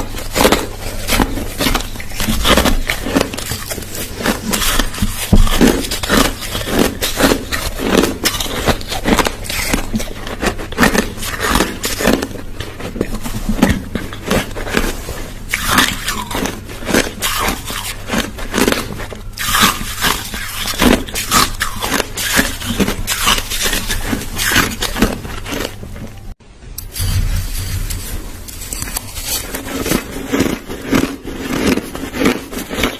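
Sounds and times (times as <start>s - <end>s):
ice being chewed: 0.0s - 26.3s, 28.7s - 32.9s.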